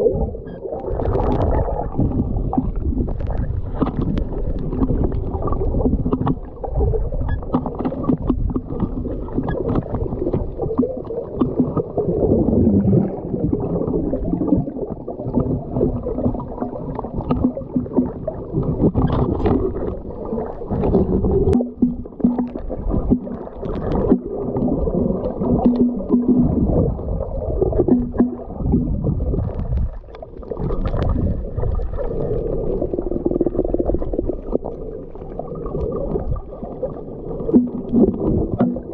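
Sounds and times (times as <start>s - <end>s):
muffled underwater wash: 0.0s - 38.9s.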